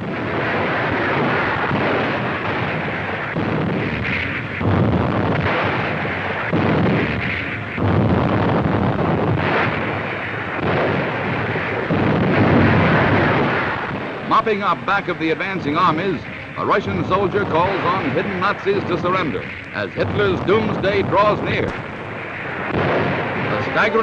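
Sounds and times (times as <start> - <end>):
artillery fire and explosions: 0.0 - 24.0
heavy blasts: 0.0 - 24.0.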